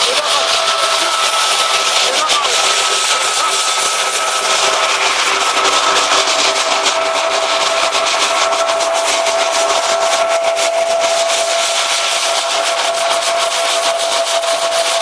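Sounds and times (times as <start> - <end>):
thresher whining: 0.0 - 15.0.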